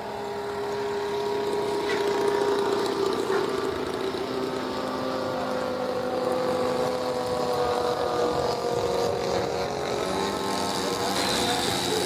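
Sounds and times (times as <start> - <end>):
model airplane motor buzzing: 0.0 - 12.0.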